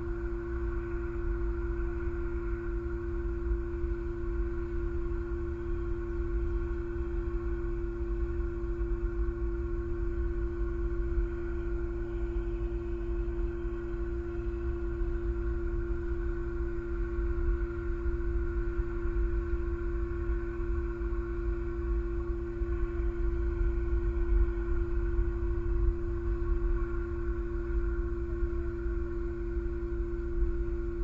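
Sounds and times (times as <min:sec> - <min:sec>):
constant low rumble: 0:00.0 - 0:31.0
steady multi-tone hum: 0:00.0 - 0:31.0.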